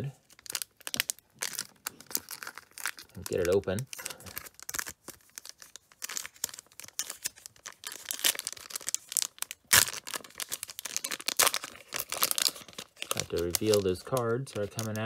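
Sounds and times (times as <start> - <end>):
card pack wrapper tearing: 0.0 - 15.0.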